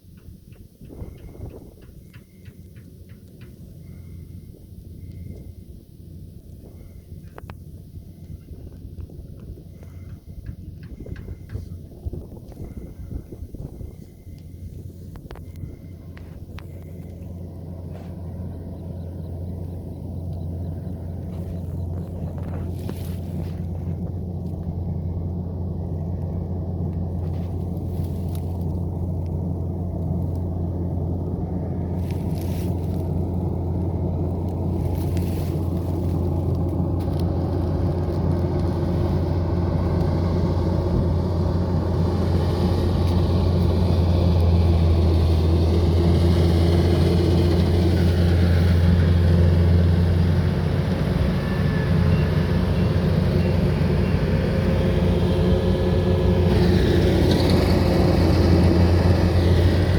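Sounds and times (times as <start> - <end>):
harvester engine drone: 0.0 - 59.9.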